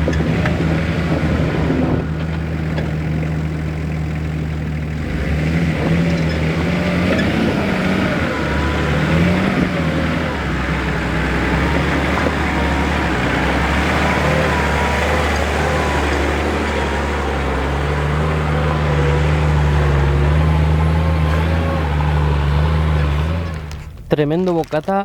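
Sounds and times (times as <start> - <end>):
off-road vehicle engine driving: 0.0 - 25.0.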